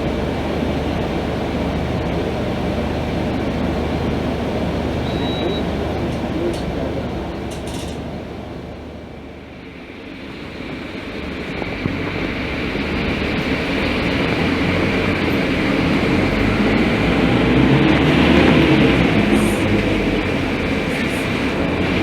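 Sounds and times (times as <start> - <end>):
bus engine running: 0.0 - 22.0
road noise: 0.0 - 22.0.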